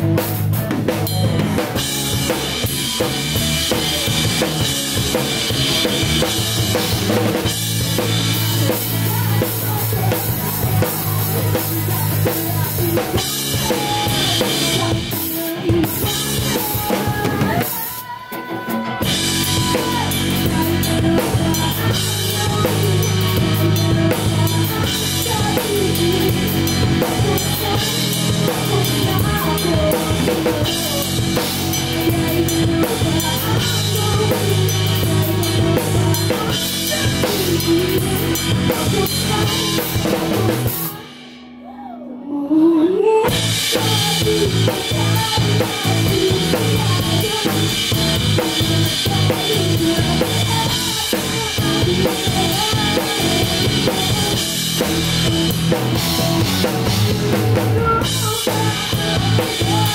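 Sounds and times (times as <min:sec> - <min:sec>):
drum kit: 0:00.0 - 0:41.6, 0:43.2 - 0:59.9
live band playing: 0:00.0 - 0:41.6, 0:43.2 - 0:59.9.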